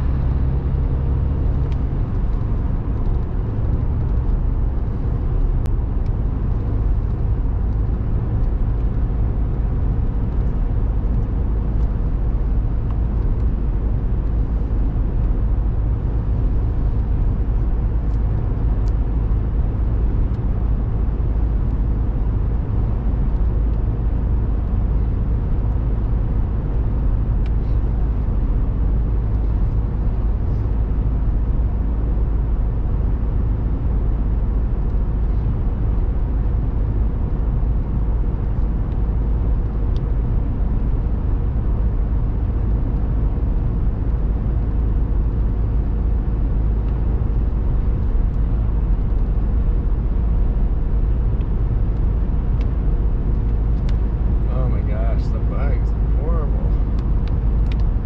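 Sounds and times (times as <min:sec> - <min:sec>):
road and engine rumble in car: 0:00.0 - 0:58.0.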